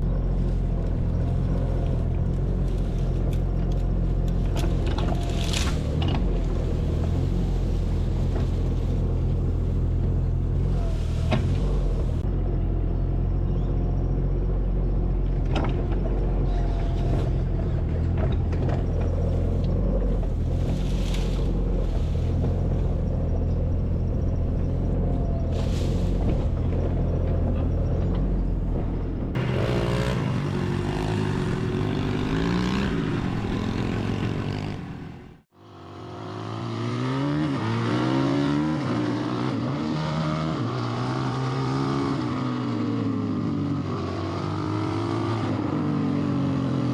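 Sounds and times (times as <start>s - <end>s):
engine humming: 0.0s - 46.9s
motorbike engines revving: 0.0s - 46.9s.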